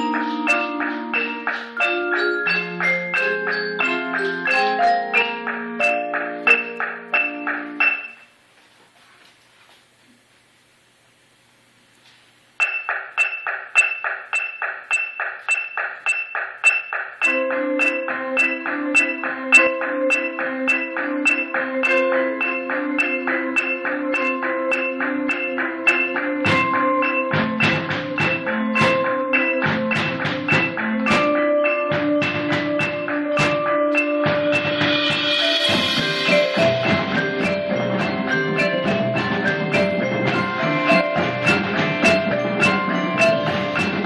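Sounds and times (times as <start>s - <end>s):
high mallet figure on marimbas: 0.0s - 8.3s, 12.6s - 44.0s.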